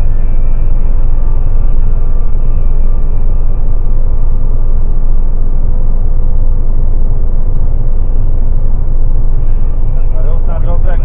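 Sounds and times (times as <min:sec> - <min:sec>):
road and wind noise in car: 0:00.0 - 0:11.0.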